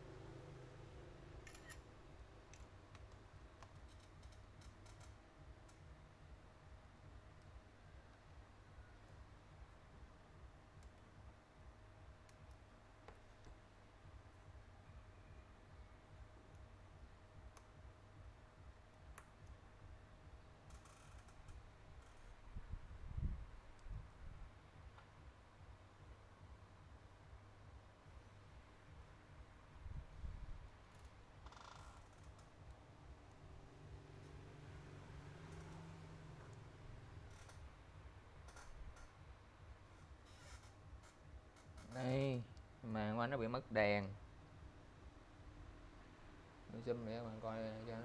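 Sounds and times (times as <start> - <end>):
quiet room hum: 0.0 - 48.0.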